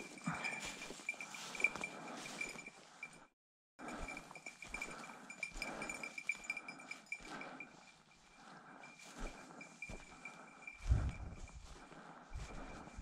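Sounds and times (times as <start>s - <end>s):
collar bell tinkling: 0.0s - 13.0s.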